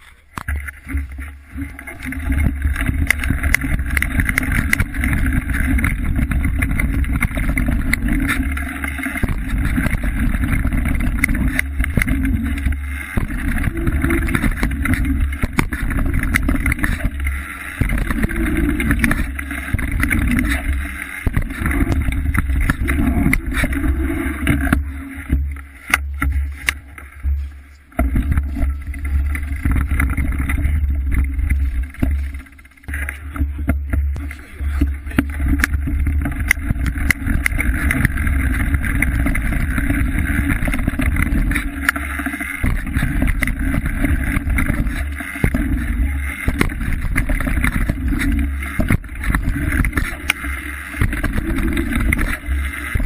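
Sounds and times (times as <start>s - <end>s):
bike rattling and knocking: 0.0s - 53.0s
bike tyre noise: 0.0s - 53.0s
wind rumble on microphone: 0.5s - 53.0s.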